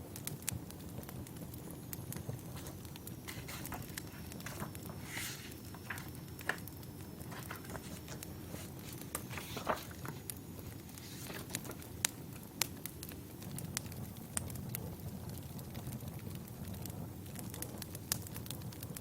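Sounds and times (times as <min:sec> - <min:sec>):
low rumble of burning logs: 0:00.0 - 0:19.0
wood crackling and popping: 0:00.0 - 0:19.0.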